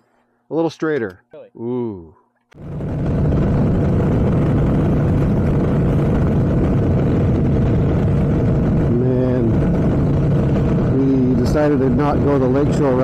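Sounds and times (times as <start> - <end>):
motorcycle engine drone: 2.5 - 13.0
wind rush: 2.6 - 13.0.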